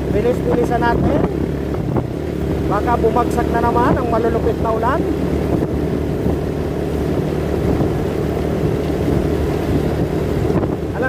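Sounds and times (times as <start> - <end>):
motorcycle engine and road rumble: 0.0 - 11.0
wind on microphone: 0.0 - 11.0.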